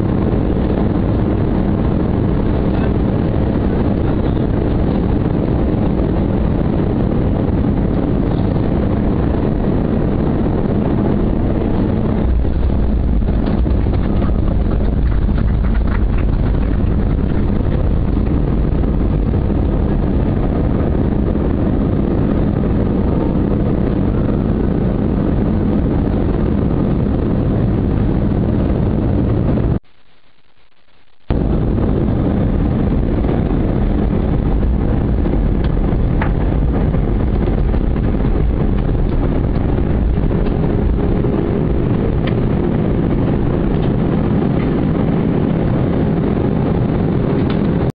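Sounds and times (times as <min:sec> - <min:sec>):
airliner engines rumbling: 0:00.0 - 0:47.9.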